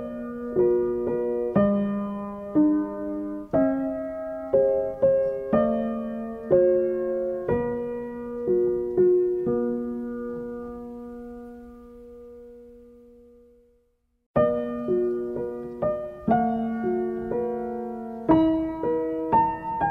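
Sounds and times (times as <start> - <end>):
slow gentle piano music: 0.0 - 19.9.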